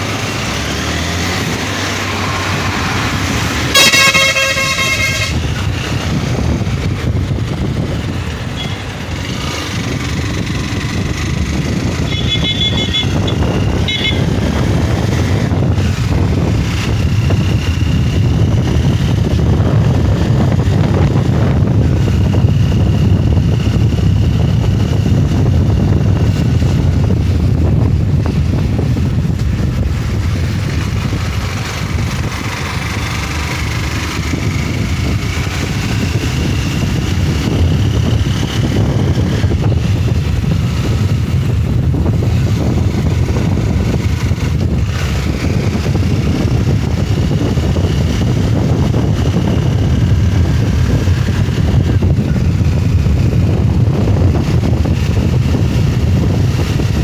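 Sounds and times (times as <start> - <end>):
motorcycle engine running: 0.0 - 57.0
wind on microphone: 0.0 - 57.0.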